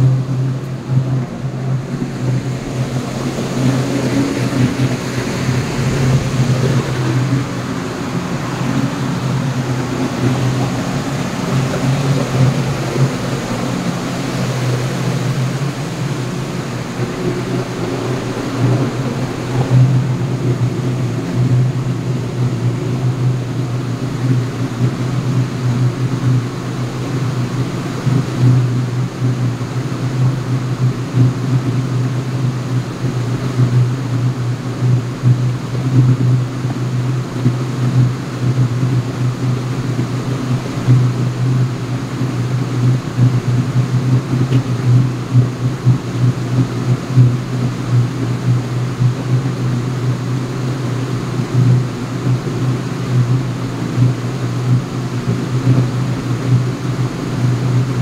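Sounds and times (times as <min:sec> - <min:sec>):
engine-room machinery hum: 0:00.0 - 0:58.0.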